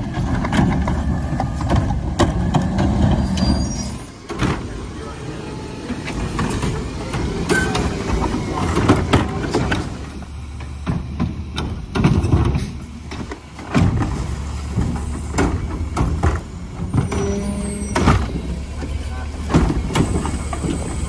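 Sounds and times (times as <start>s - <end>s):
knocks and clattering bangs: 0.0s - 3.6s, 4.3s - 4.8s, 6.0s - 17.3s, 19.4s - 21.0s
garbage truck engine running: 0.0s - 21.0s.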